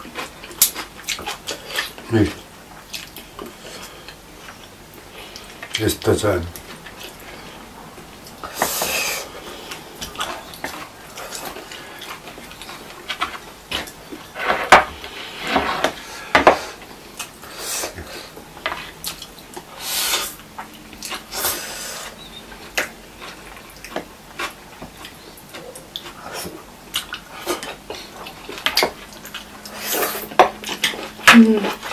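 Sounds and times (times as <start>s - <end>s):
slurping and chewing noodles: 0.0s - 5.8s, 6.5s - 31.9s.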